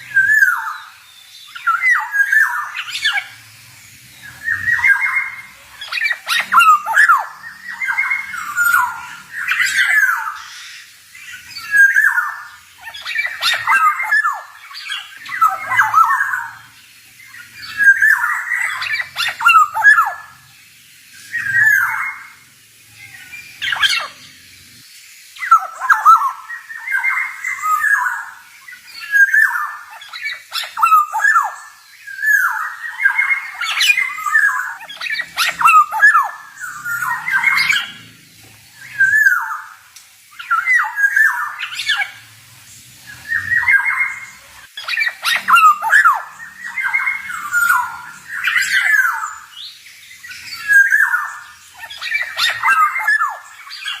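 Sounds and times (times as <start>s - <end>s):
oriole singing fluting phrases: 0.0s - 20.5s, 21.1s - 38.1s, 38.7s - 54.0s.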